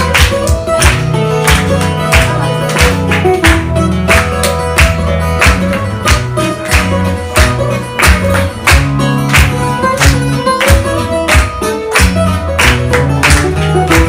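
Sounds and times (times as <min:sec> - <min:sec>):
guitars playing lively tune: 0:00.0 - 0:14.0
loud hand claps: 0:00.0 - 0:14.0.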